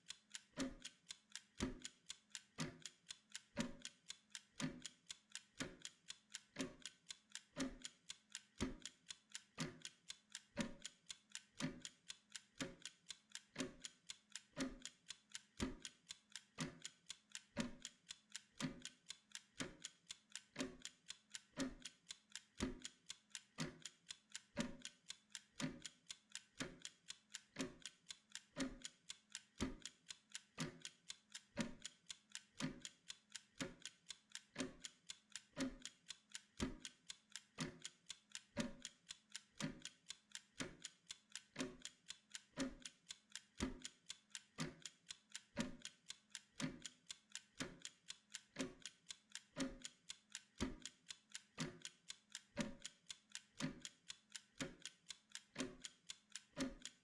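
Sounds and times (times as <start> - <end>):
kitchen timer ticking: 0.0 - 57.0.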